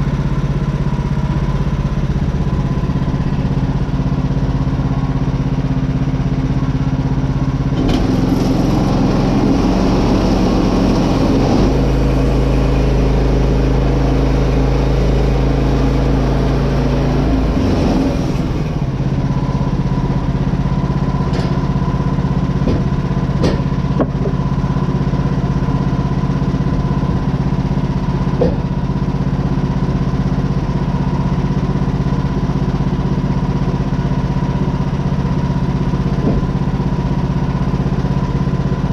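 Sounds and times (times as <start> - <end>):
sawmill cutting timber: 0.0 - 38.9
small gas engine running: 0.0 - 38.9.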